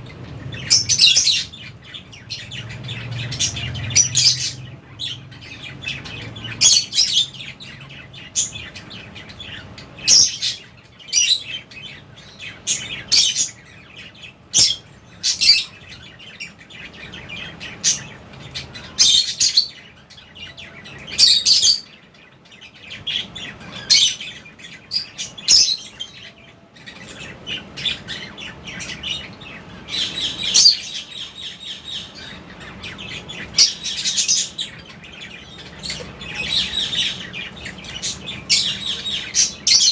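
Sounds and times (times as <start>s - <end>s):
faint steady hum: 0.0s - 39.9s
lovebirds chirping: 0.0s - 39.9s.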